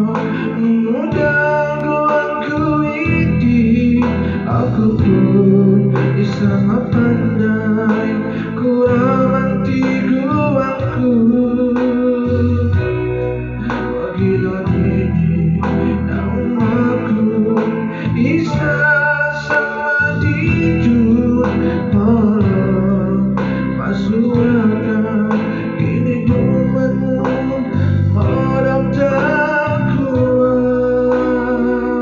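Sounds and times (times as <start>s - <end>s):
keyboard accompaniment: 0.0s - 32.0s
man singing into a microphone: 0.0s - 32.0s.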